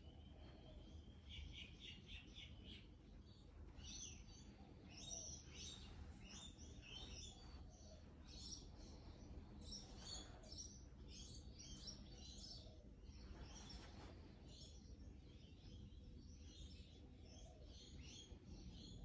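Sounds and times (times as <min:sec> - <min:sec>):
birds chirping: 0:00.0 - 0:19.0
low steady hum: 0:00.0 - 0:19.0.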